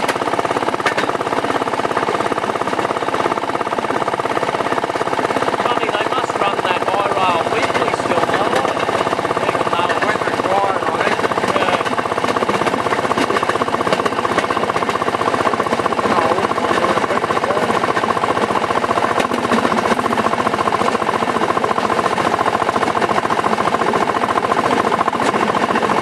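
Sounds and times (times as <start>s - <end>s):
rail car engine pulsing: 0.0s - 26.0s.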